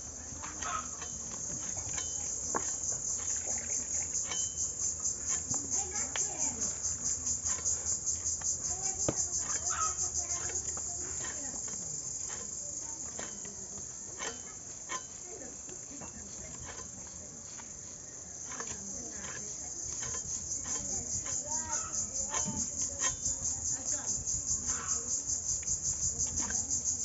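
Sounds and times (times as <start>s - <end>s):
pulsing insect trill: 0.0s - 27.0s
fish being scaled and cut: 0.4s - 23.3s.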